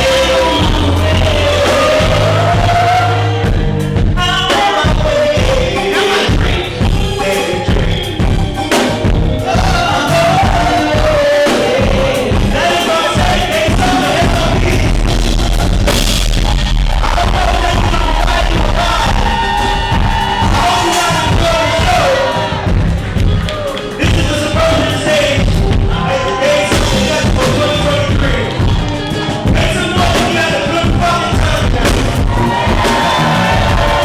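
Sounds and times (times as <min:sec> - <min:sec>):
person singing: 0:00.0 - 0:15.3, 0:16.8 - 0:34.0
live band playing: 0:00.0 - 0:34.0.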